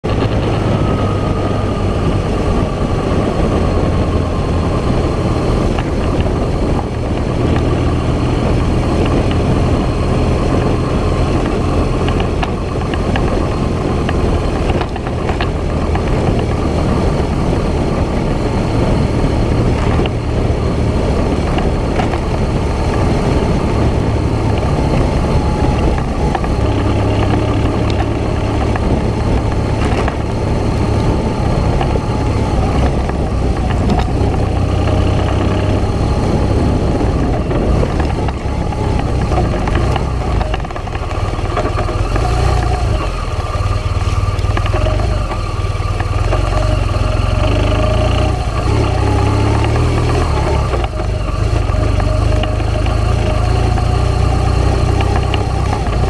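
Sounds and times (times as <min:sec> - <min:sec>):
vehicle road rumble: 0:00.0 - 0:56.0.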